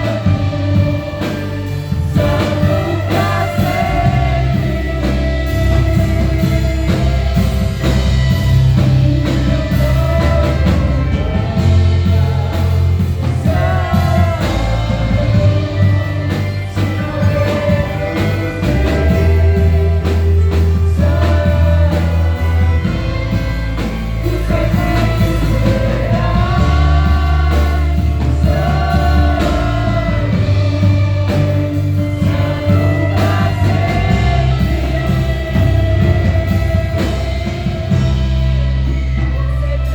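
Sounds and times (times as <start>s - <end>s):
gospel worship music: 0.0s - 39.9s
person singing: 0.0s - 39.9s.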